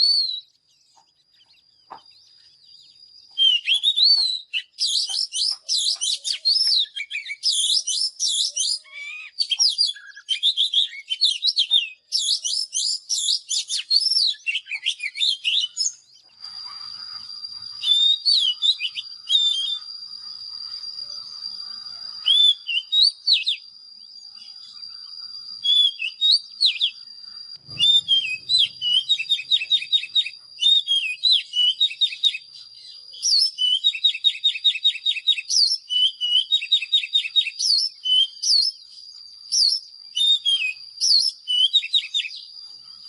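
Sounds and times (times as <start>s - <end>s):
bird singing whistled phrases: 0.0s - 43.0s.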